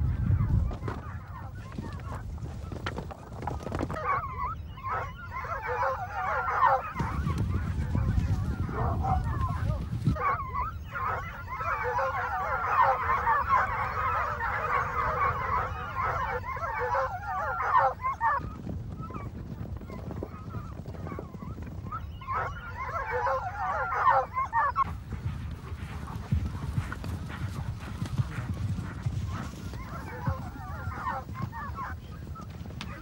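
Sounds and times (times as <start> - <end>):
hounds baying: 0.0 - 33.0.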